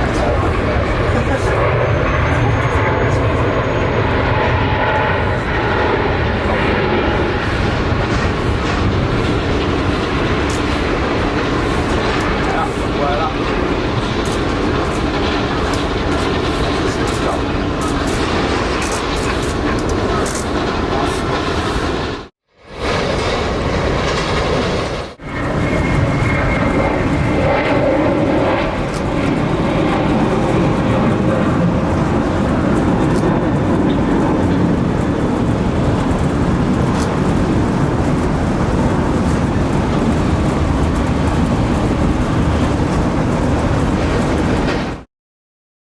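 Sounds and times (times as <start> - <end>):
jet engine noise: 0.0 - 45.1.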